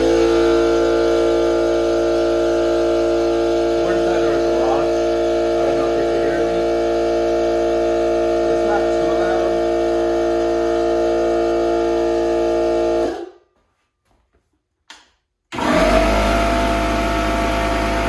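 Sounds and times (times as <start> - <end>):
air compressor running: 0.0 - 13.8, 15.5 - 18.0.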